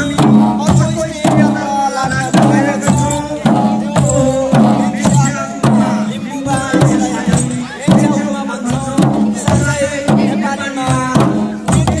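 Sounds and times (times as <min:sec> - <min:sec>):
barrel drums beating: 0:00.0 - 0:12.0.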